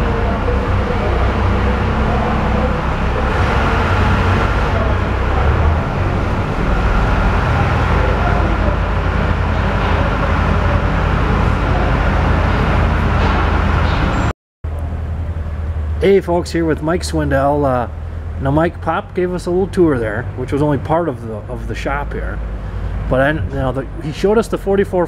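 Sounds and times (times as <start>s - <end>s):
low mechanical engine rumble: 0.0s - 25.0s.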